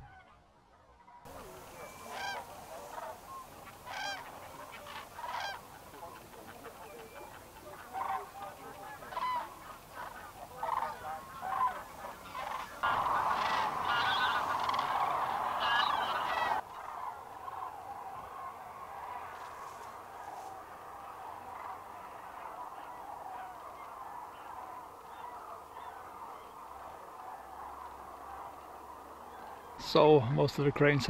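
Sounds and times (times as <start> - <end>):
cranes and geese calling: 1.2 - 29.8.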